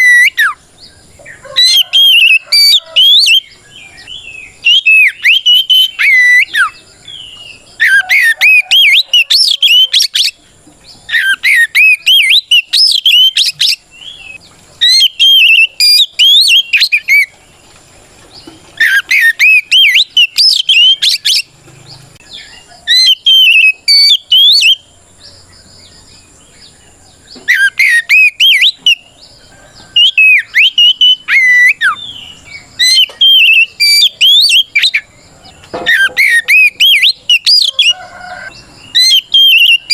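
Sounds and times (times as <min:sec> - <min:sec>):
bird singing whistled phrases: 0:00.0 - 0:00.6, 0:01.3 - 0:10.4, 0:11.1 - 0:17.3, 0:18.8 - 0:21.5, 0:22.3 - 0:24.9, 0:27.4 - 0:29.1, 0:29.8 - 0:39.9.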